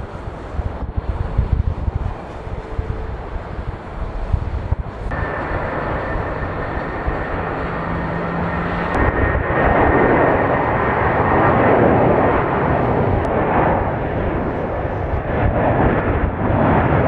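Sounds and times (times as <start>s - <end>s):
high engine whine: 0.0s - 17.0s
jet engines roaring: 0.0s - 17.0s
wind buffeting microphone: 0.0s - 17.0s.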